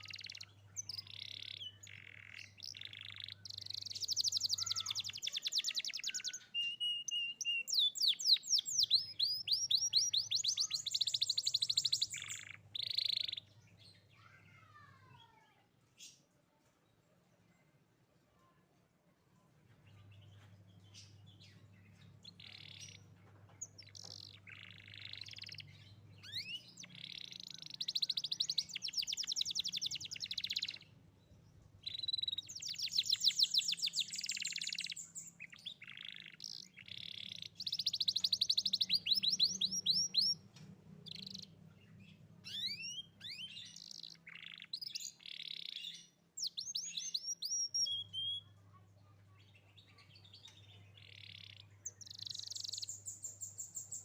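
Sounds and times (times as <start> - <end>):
canary singing trills: 0.0 - 15.1, 19.8 - 54.0.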